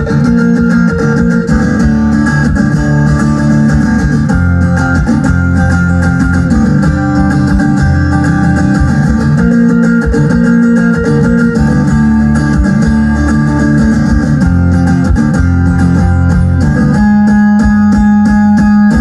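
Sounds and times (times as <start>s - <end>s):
rock guitars playing: 0.0s - 19.0s.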